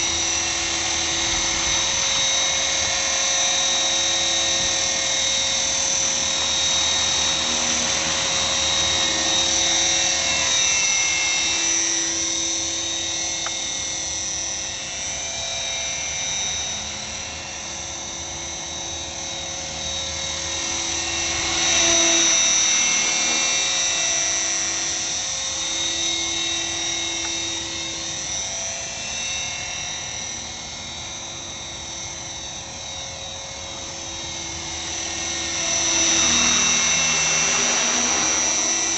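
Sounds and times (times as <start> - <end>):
helicopter rotor noise: 0.0 - 38.9
rc helicopter motor whine: 0.0 - 38.9.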